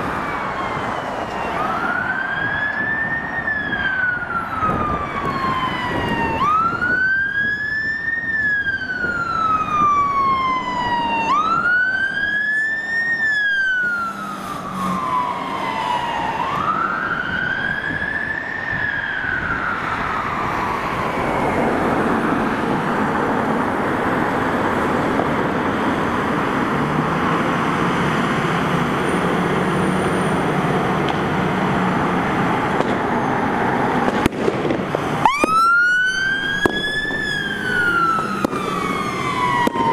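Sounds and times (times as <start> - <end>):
fire engine siren wailing: 0.0 - 39.9
road noise: 0.0 - 39.9.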